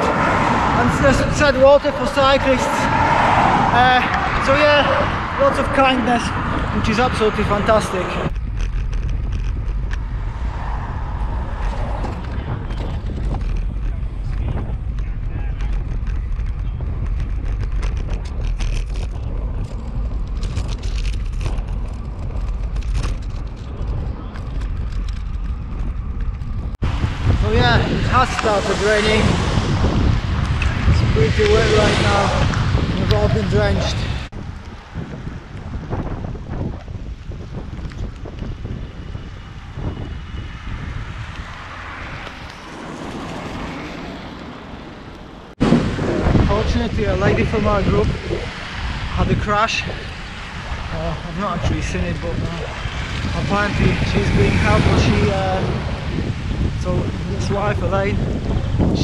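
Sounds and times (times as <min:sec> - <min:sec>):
bike tyres rolling on tarmac: 0:00.0 - 0:59.0
wind on microphone: 0:00.0 - 0:59.0.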